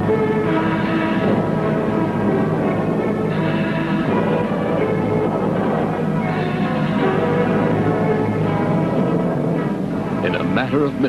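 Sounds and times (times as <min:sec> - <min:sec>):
music with sustained chords: 0:00.0 - 0:11.0.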